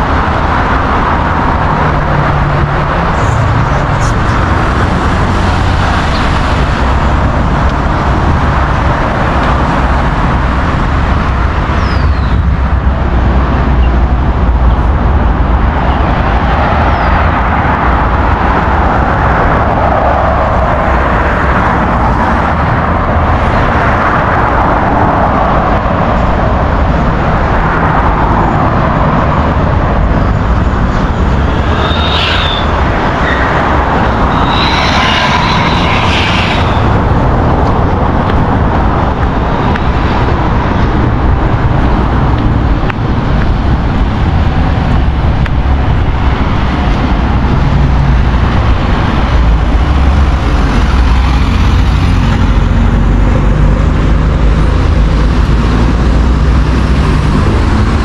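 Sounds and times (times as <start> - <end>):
cars driving past: 0.0 - 58.0.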